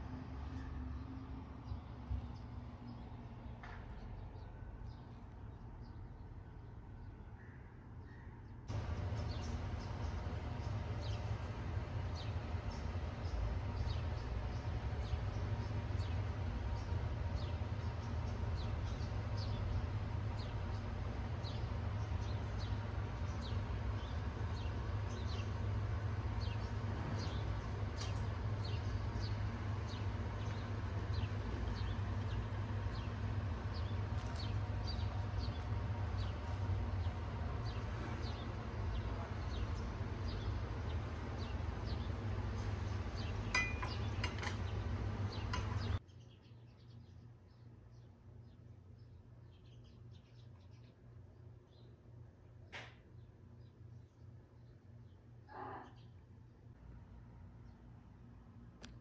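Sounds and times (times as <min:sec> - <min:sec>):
steady low hum: 0:00.0 - 0:59.0
small birds chirping: 0:00.6 - 0:56.8.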